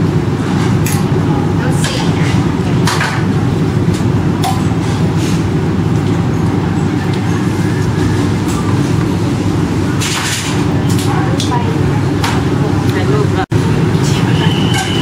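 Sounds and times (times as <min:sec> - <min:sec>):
low kitchen rumble: 0:00.0 - 0:15.0.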